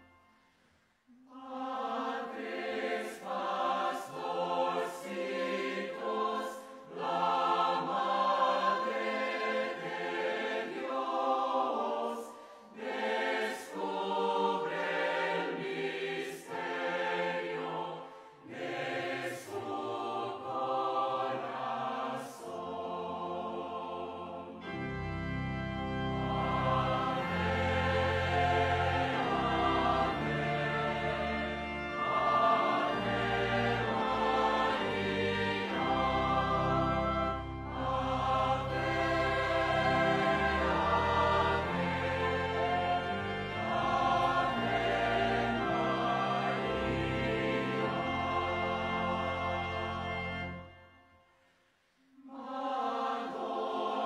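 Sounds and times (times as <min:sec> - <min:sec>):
choir singing a slow hymn: 0:01.1 - 0:51.0, 0:52.0 - 0:54.0.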